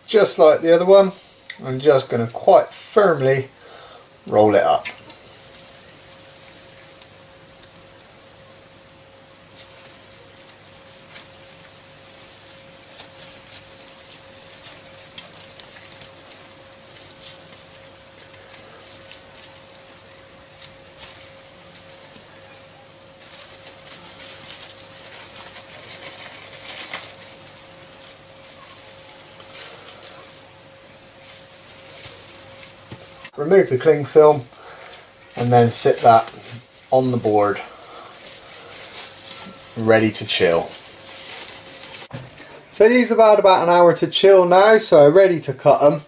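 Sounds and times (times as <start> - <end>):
steady hum: 0.0 - 46.0
cling film crinkling: 0.1 - 43.1.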